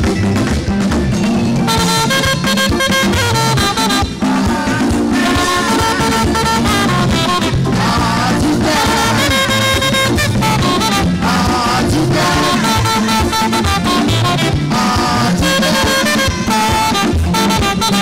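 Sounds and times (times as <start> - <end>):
band with drums and bass: 0.0 - 18.0
saxophone melody: 1.2 - 18.0.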